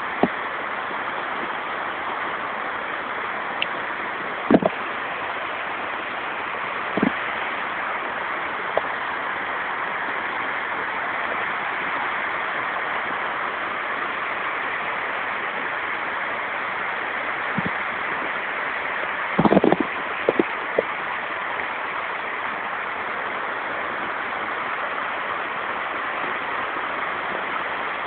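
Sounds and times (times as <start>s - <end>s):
water rushing over rock: 0.0s - 28.0s.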